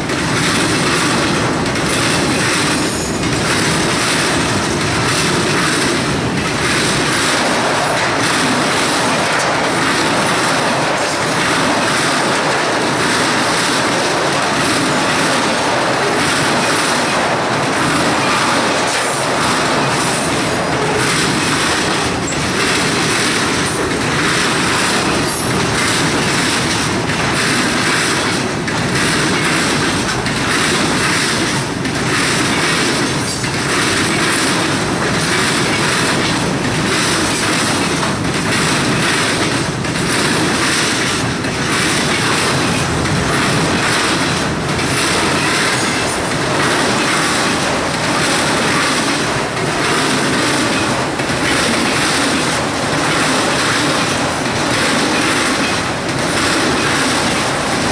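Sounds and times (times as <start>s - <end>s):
freight train wheels clattering: 0.0s - 57.9s.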